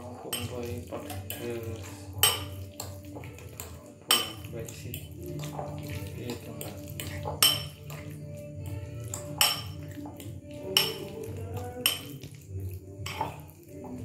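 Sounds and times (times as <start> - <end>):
background music: 0.0 - 14.0
spoon stirring wet filling: 0.0 - 14.0
spoon clinking on ceramic bowl: 0.2 - 8.2, 9.0 - 12.3, 13.0 - 14.0.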